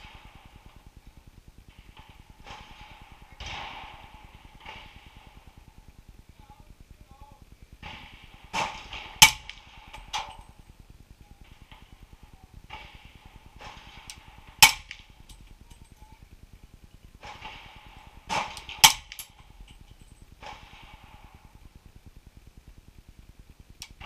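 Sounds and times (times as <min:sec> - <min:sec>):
suppressed rifle shots: 0:00.0 - 0:06.5, 0:07.7 - 0:22.0.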